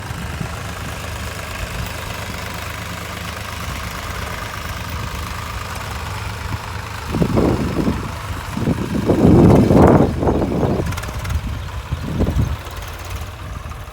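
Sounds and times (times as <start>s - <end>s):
tractor engine: 0.0s - 13.9s.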